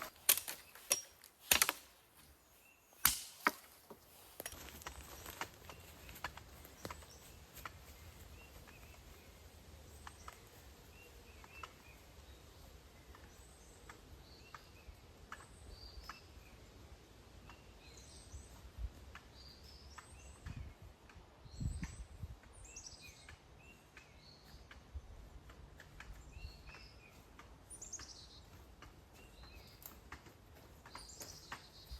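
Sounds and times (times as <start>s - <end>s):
birds chirping: 0.0s - 31.9s.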